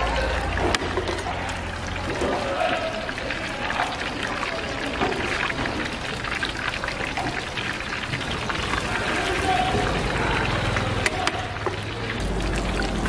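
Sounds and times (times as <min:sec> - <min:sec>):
deep-frying sizzle and crackling: 0:00.0 - 0:13.0.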